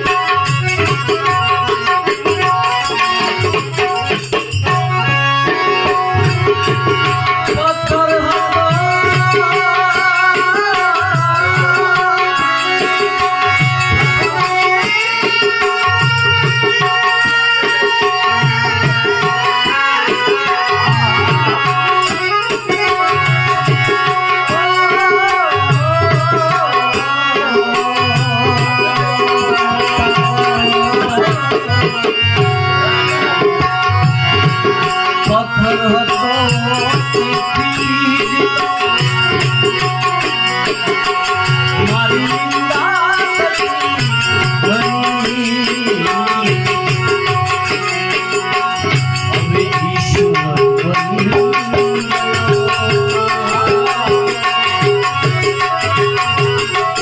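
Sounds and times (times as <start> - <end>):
hand drums beating: 0.0 - 57.0
rattling hand percussion: 0.0 - 57.0
wavering melody: 0.0 - 57.0.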